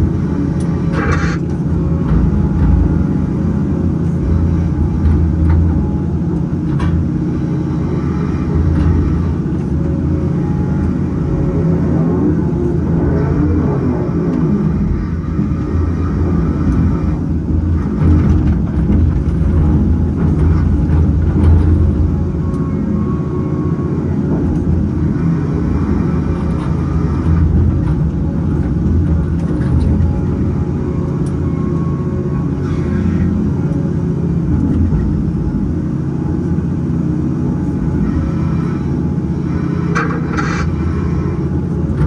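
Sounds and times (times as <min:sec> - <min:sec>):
diesel engine running under load: 0:00.0 - 0:42.0
hydraulics working: 0:00.0 - 0:42.0.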